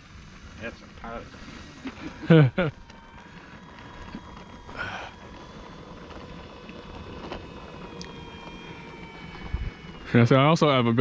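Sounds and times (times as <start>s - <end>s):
electric motor and propeller whining: 0.0s - 11.0s.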